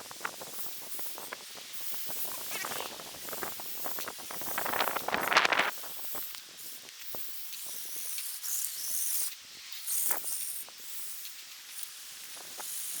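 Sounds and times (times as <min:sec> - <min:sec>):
toy trucks plowing through snow: 0:00.1 - 0:13.0.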